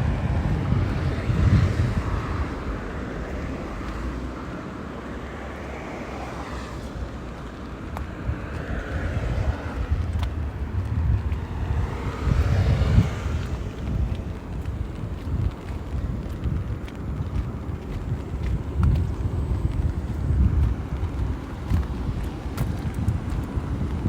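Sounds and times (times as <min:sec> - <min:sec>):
tyres hissing on wet road: 0:00.0 - 0:24.0
wind buffeting microphone: 0:00.0 - 0:24.0.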